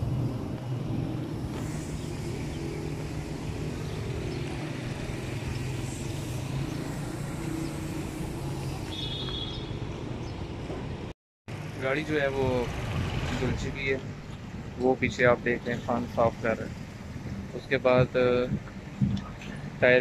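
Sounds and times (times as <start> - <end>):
motor low drone: 0.0 - 19.9.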